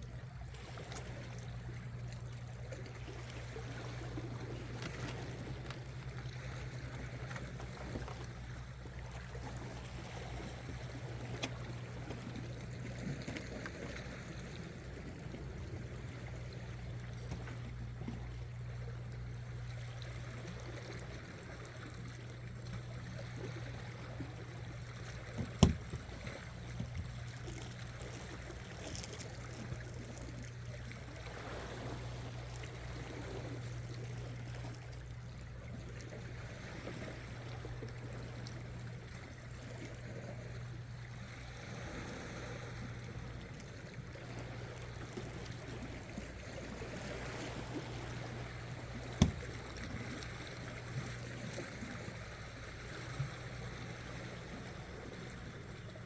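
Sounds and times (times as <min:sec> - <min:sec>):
sea water lapping against rocks: 0:00.0 - 0:56.0
steady low hum: 0:00.0 - 0:56.0.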